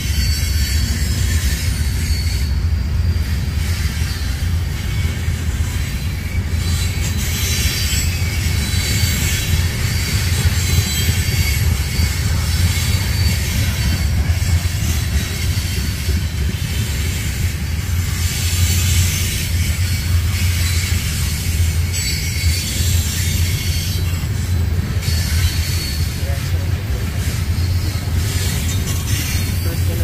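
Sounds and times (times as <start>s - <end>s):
faint wheel squeal: 0.0s - 30.0s
train rumbling past: 0.0s - 30.0s.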